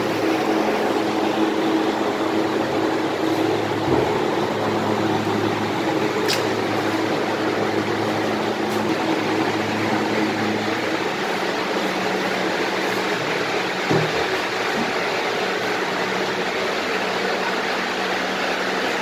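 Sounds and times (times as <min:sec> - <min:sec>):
refrigeration fans rushing air: 0:00.0 - 0:19.0.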